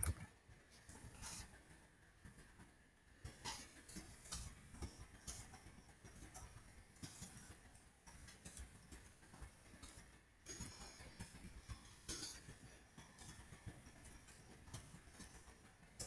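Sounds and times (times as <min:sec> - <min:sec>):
faint keyboard typing: 0:00.0 - 0:16.0.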